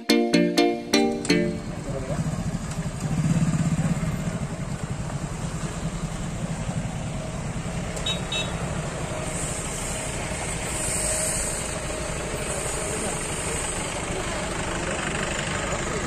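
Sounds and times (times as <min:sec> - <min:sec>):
car engines rumbling: 0:01.3 - 0:16.0.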